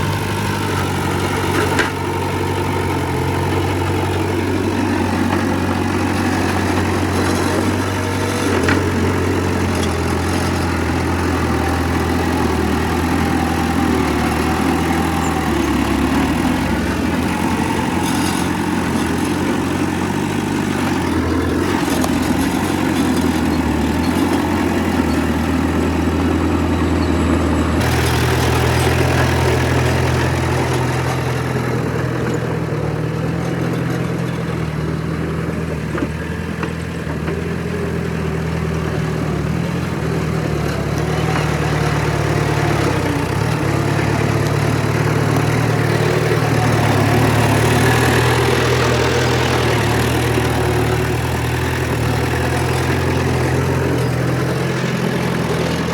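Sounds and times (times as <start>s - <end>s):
heavy machinery diesel engine running: 0.0s - 55.9s.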